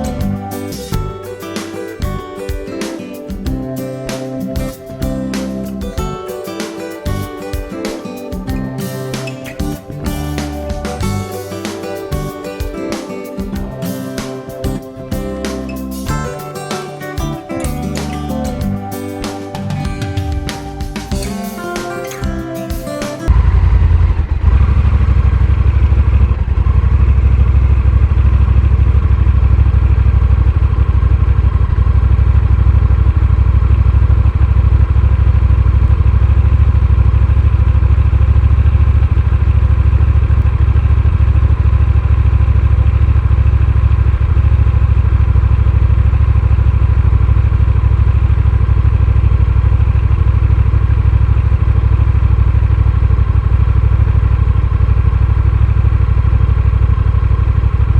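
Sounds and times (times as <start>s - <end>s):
motorcycle engine running: 0.0s - 1.4s, 2.0s - 2.7s, 3.3s - 6.3s, 7.1s - 7.7s, 8.3s - 21.5s, 22.2s - 57.9s.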